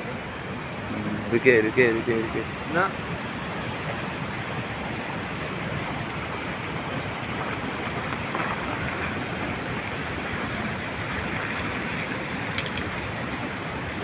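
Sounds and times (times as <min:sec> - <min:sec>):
avalanche rushing down gully: 0:00.0 - 0:14.0.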